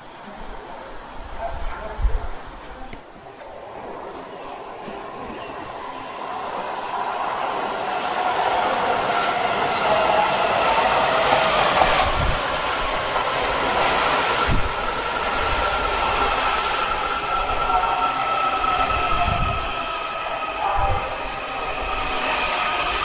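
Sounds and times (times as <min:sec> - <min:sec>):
train pulling into station: 0:00.0 - 0:23.0.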